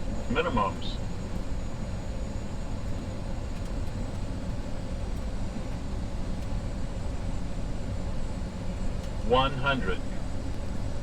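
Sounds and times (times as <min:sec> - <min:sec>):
aircraft cockpit rumble: 0:00.0 - 0:11.0.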